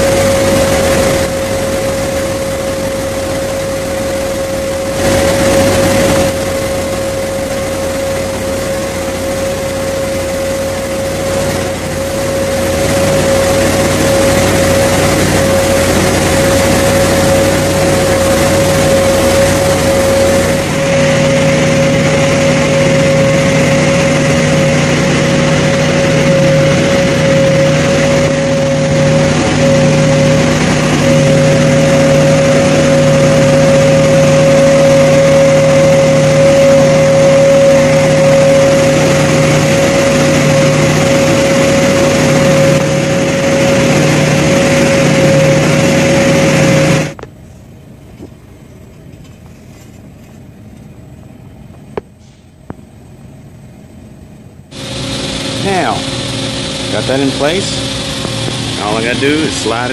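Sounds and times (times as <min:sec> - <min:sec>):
heavy machinery humming: 0:00.0 - 0:59.9
machinery whine: 0:00.0 - 0:59.9.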